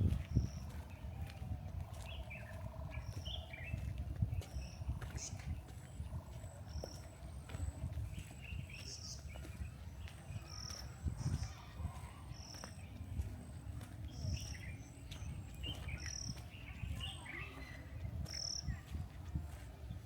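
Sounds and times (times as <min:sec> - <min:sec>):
footsteps on trail: 0:00.0 - 0:20.0
lower bird chirps: 0:02.0 - 0:18.9.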